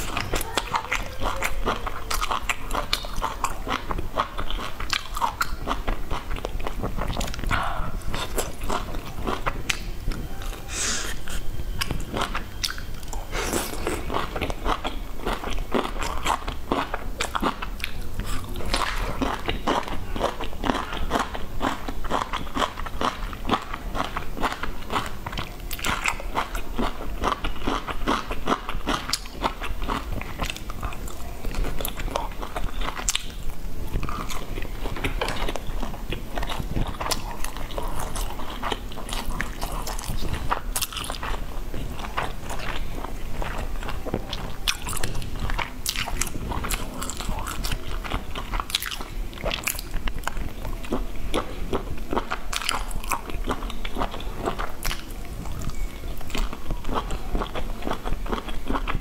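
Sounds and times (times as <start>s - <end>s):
woman biting and chewing: 0.0s - 59.0s.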